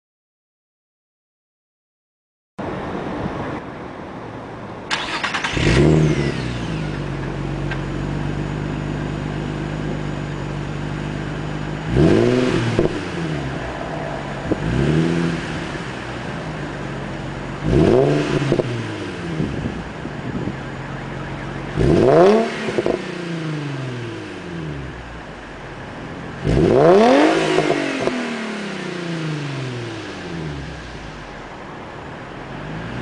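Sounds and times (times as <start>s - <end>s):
car engine idling: 4.6s - 33.0s
car engine starting: 4.7s - 33.0s
car engine revving: 4.9s - 33.0s.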